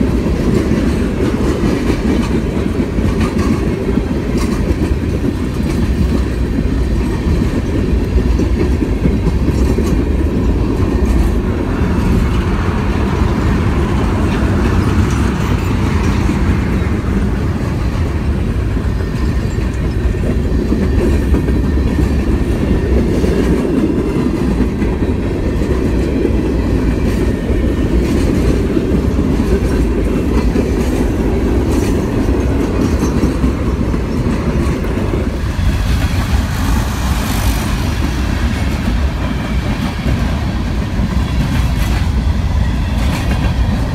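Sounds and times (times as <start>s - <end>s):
train rumble: 0.0s - 43.9s
train wheels clickety-clack: 0.0s - 43.9s.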